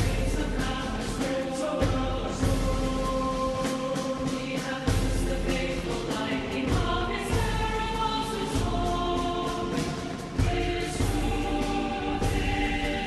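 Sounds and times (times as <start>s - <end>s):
choir singing with orchestra: 0.0s - 13.0s.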